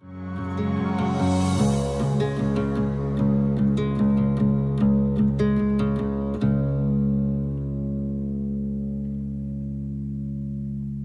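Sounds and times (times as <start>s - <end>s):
sustained low notes: 0.0s - 9.2s
acoustic guitar strumming: 0.0s - 9.7s.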